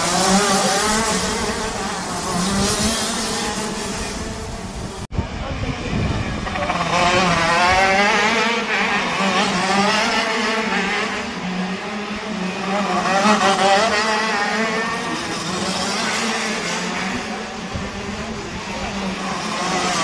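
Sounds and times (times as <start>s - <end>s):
racing kart engine driving past: 0.0s - 20.0s.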